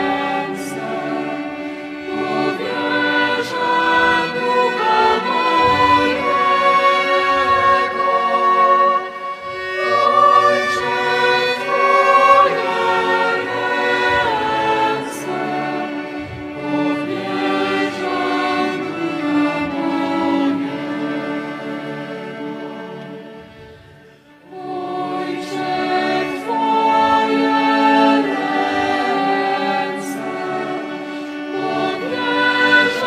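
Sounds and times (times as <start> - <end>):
choir singing: 0.0 - 33.0
violins: 0.0 - 33.0.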